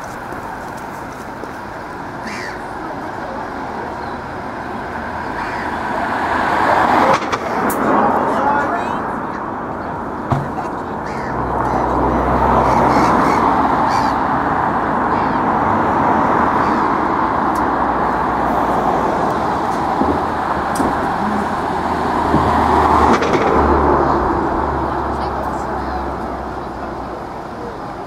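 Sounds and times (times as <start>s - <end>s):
diesel coach engine droning: 0.0s - 28.0s.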